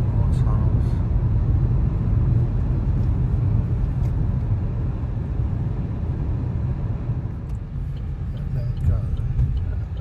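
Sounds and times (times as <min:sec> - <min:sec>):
car interior road and engine rumble: 0:00.0 - 0:10.0.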